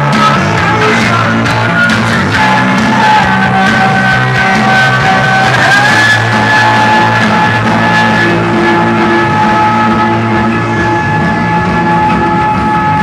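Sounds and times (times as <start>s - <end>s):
loud music from car speakers: 0.0s - 13.0s.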